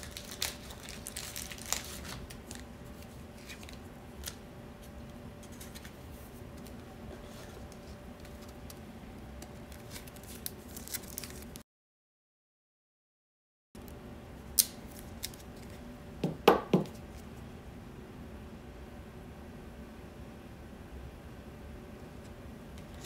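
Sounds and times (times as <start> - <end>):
steady low hum: 0.0 - 11.6, 13.8 - 23.0.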